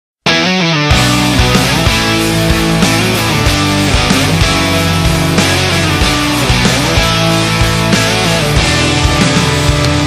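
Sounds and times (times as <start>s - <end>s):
drums: 0.3s - 10.0s
rock band playing: 0.3s - 10.0s.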